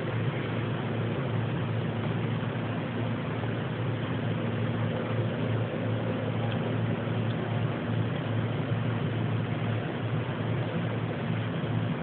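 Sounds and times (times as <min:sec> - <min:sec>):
low mechanical drone from the sky: 0:00.0 - 0:12.0.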